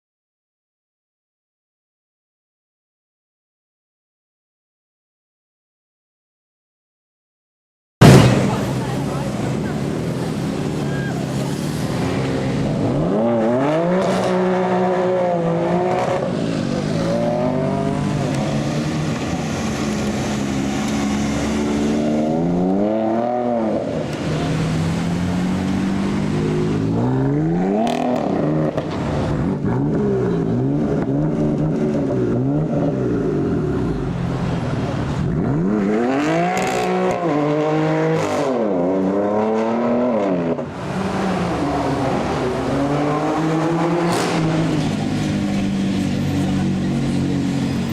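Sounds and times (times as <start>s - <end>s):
car engine revving: 8.0s - 47.9s.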